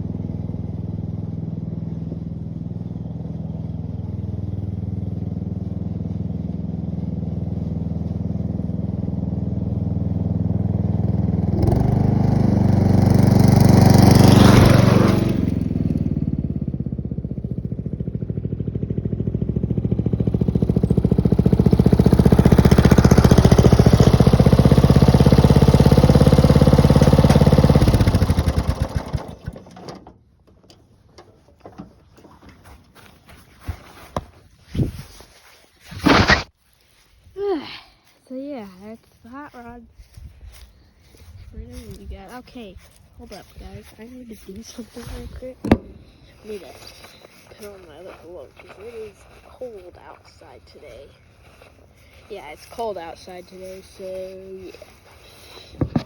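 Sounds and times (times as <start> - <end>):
riding lawn mower engine: 0.0 - 34.4, 35.4 - 36.8, 38.4 - 56.0.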